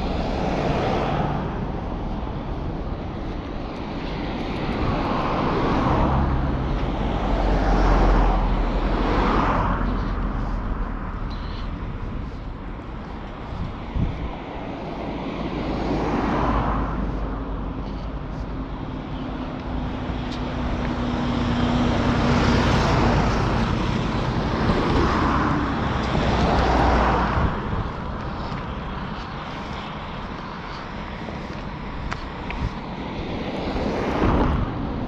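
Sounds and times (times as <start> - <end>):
vehicles passing on road: 0.0 - 35.0.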